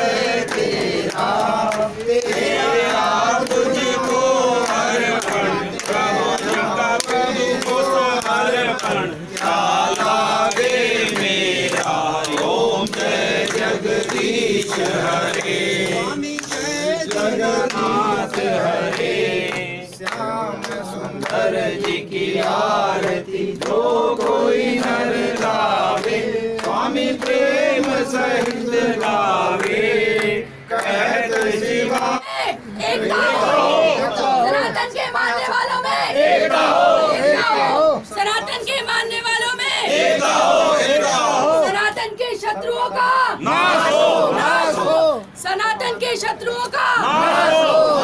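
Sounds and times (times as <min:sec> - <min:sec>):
group chanting in unison: 0:00.0 - 0:38.5, 0:39.5 - 0:45.4, 0:46.7 - 0:48.0.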